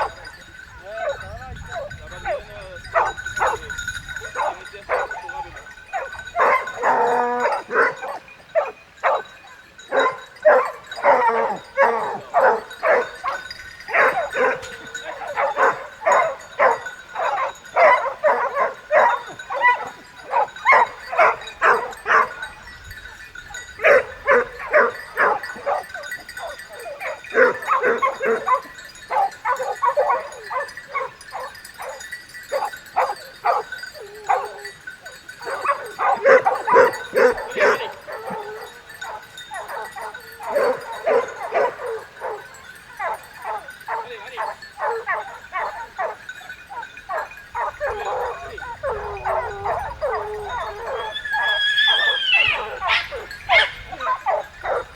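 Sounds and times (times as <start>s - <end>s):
dogs barking and baying: 0.0s - 54.9s.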